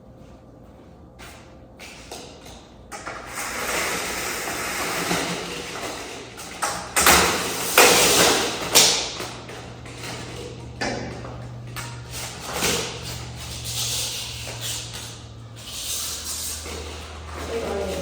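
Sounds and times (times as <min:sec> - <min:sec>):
blind slats rattling and scraping: 0:03.1 - 0:18.0.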